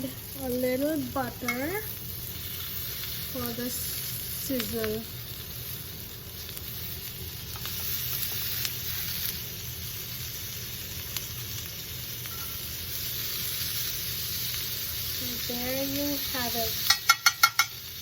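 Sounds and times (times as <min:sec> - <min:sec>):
food sizzling on hot plate: 0:00.0 - 0:18.0.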